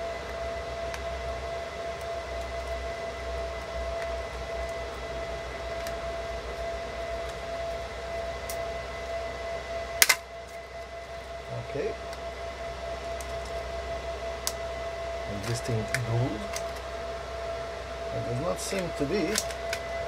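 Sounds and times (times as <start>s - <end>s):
high-pitched whine: 0.0s - 20.0s
low hum and hiss: 0.0s - 20.0s.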